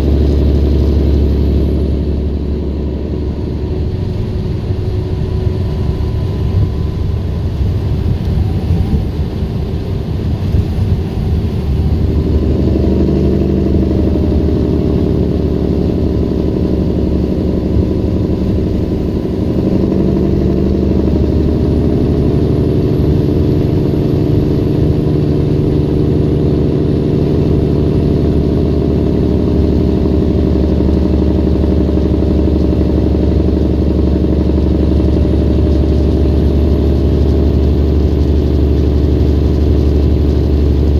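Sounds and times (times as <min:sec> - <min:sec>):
road noise: 0:00.0 - 0:40.9
truck diesel engine: 0:00.0 - 0:40.9.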